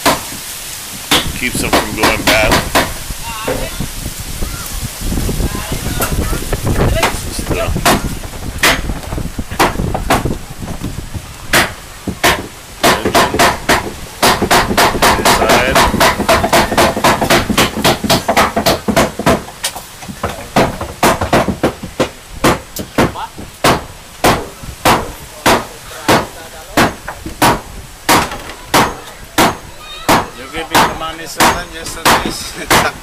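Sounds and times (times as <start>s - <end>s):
hammer blows: 1.1s - 3.8s, 6.0s - 33.0s.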